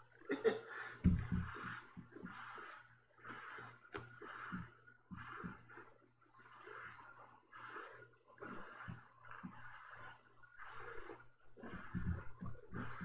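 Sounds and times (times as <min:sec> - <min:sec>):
person breathing: 0:00.7 - 0:13.0.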